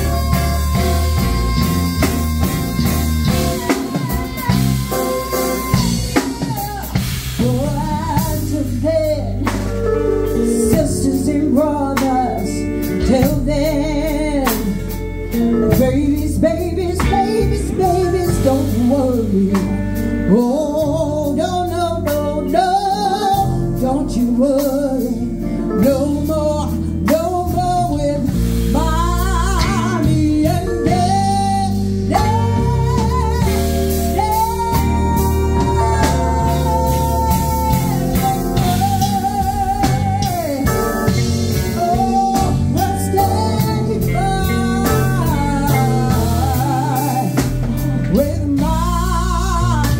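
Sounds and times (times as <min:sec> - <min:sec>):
drum kit: 0:00.0 - 0:49.9
electric guitar: 0:00.0 - 0:49.9
woman singing into a microphone: 0:00.0 - 0:49.9.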